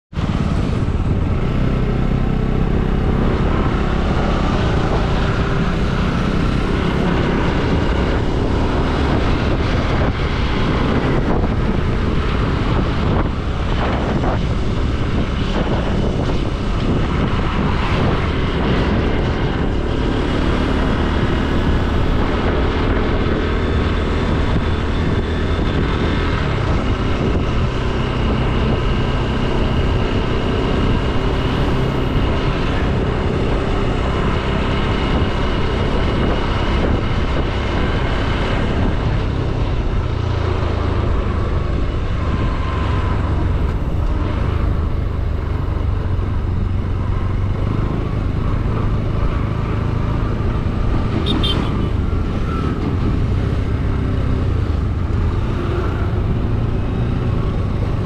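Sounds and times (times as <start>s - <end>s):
wind and road noise: 0.0s - 58.0s
motorcycle engine running: 0.1s - 58.0s.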